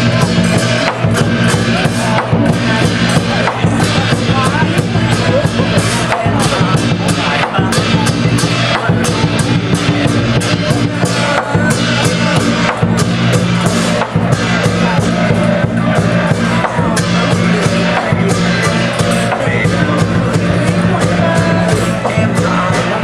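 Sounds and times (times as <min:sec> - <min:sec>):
cymbal crashes: 0:00.0 - 0:22.9
pounding drum: 0:00.0 - 0:23.0.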